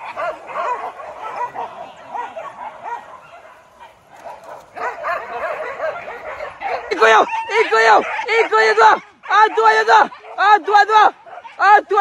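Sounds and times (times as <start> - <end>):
dogs yelping and barking: 0.0 - 11.8.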